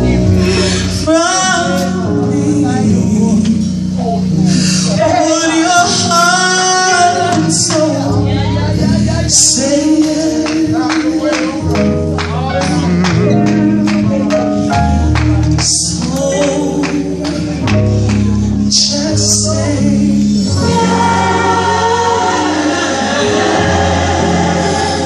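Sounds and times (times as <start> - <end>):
gospel singing over a beat: 0.0 - 25.0
sustained bass notes: 0.0 - 25.0.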